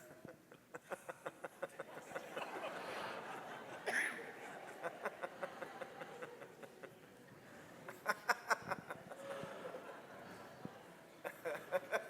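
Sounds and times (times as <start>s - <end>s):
people laughing: 0.0s - 12.0s.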